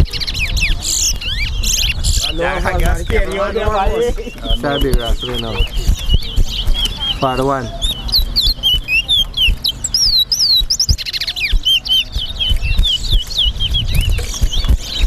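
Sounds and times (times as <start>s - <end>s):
finch singing whistled notes: 0.0s - 15.0s.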